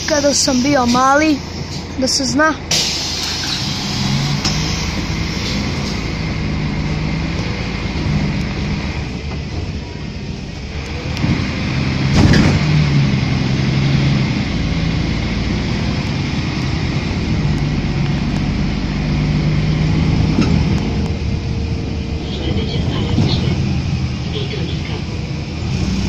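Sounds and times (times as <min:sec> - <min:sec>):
bus engine running: 0:00.0 - 0:26.0
road and cabin rumble: 0:00.0 - 0:26.0.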